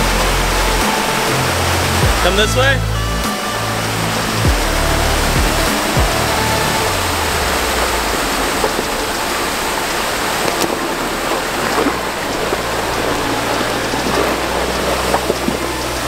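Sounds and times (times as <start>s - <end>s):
car engine running low: 0.0s - 16.0s
waterfall and creek rushing: 0.0s - 16.0s.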